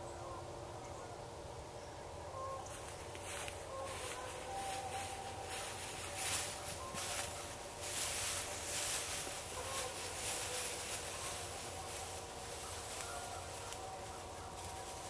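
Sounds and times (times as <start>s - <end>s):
faint steady low tones: 0.0s - 15.0s
insects chorus hiss: 0.0s - 15.0s.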